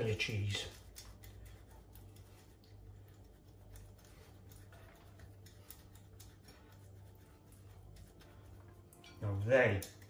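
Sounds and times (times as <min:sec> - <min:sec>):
cheese grating on metal grater: 0:00.0 - 0:10.0.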